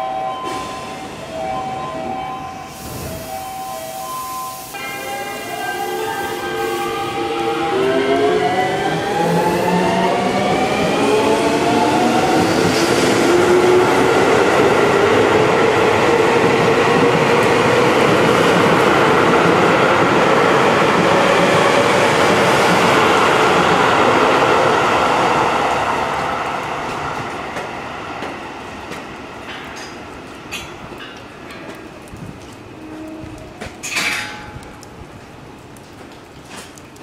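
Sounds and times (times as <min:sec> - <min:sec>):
train wheels rumbling on rails: 0:00.4 - 0:37.0.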